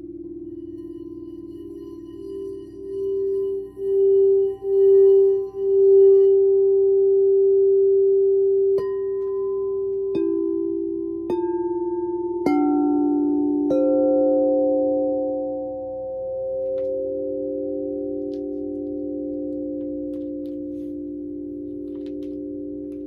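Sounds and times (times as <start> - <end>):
singing bowls ringing: 0.0 - 23.0.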